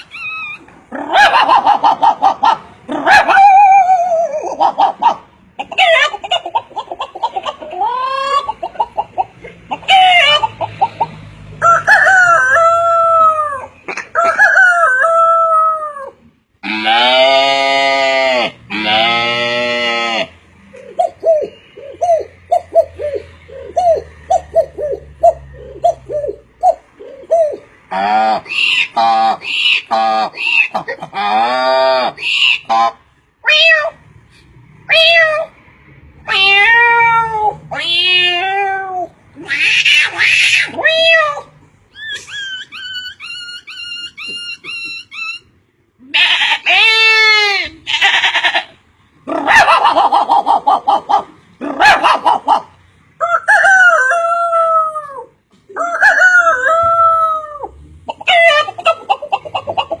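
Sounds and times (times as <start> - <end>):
animal and bird calls: 0.0 - 11.8, 12.7 - 33.2, 36.4 - 60.0.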